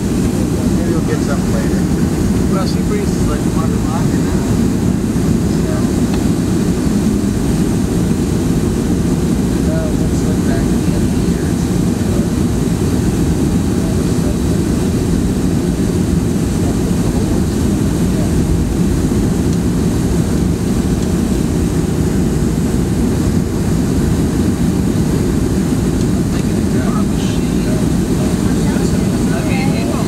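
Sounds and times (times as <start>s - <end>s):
jet engines roaring in cabin: 0.0s - 30.0s
rushing air: 0.0s - 30.0s.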